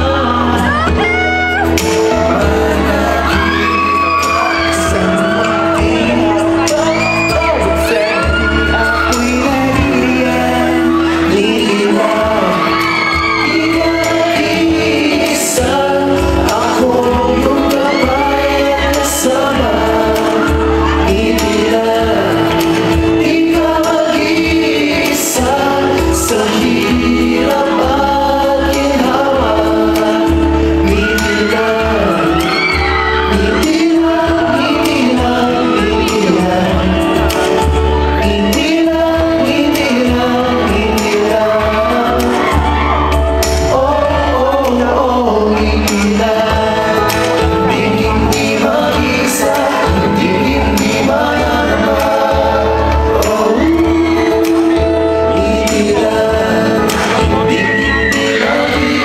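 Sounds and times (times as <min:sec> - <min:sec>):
amplified backing music: 0:00.0 - 0:59.0
male vocal group singing: 0:00.0 - 0:59.0.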